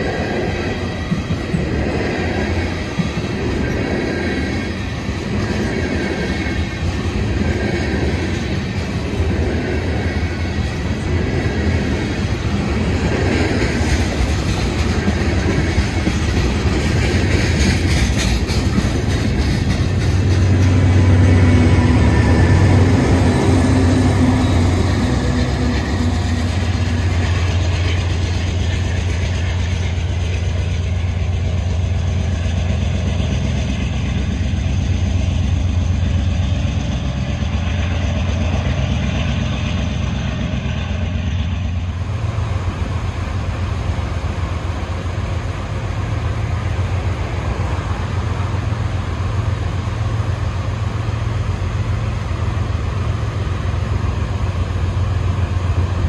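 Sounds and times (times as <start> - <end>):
freight train rumbling by: 0.0 - 56.0.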